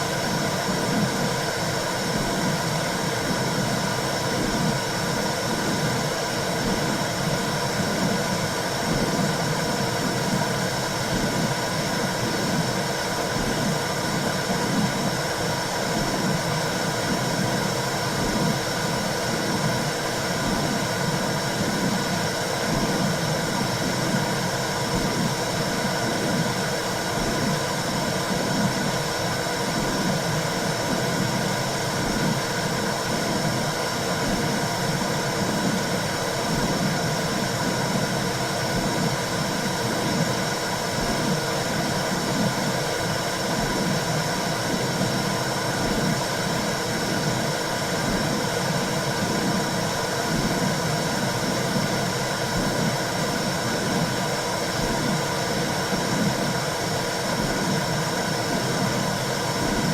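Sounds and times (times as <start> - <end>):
low rhythmic pulsing: 0.0 - 59.9.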